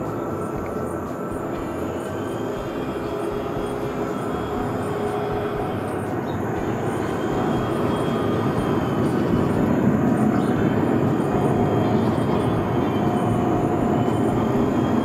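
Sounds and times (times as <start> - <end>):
faint jet whine: 0.0 - 15.0
jet engine roar at takeoff: 0.0 - 15.0.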